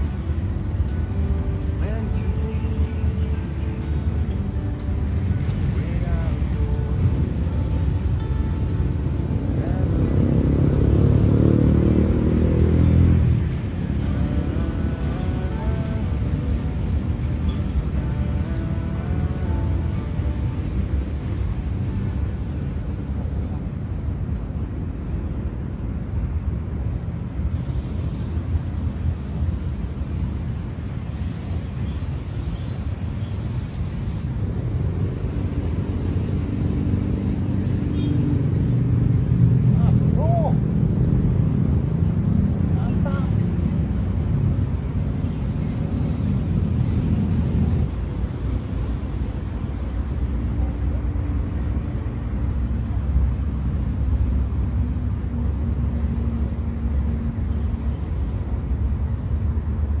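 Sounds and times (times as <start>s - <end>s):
engine hum: 0.0s - 60.0s
traffic rumble: 0.0s - 60.0s.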